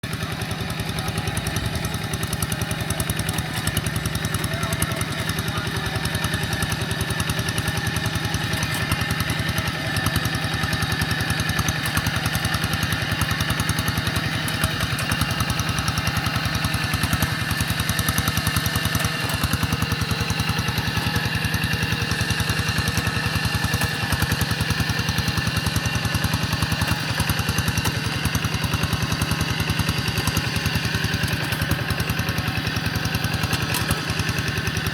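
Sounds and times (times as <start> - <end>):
tractor diesel engine chugging: 0.0 - 34.9.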